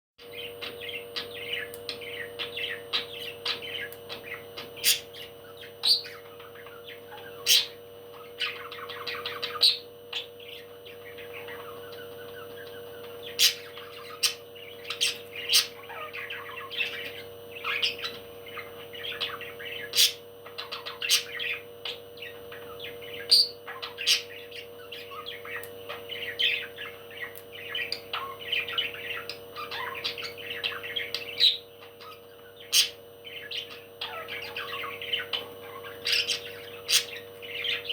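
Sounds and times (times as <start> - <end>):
steady low hum: 0.2 - 37.9
parrot chirping: 0.3 - 37.9.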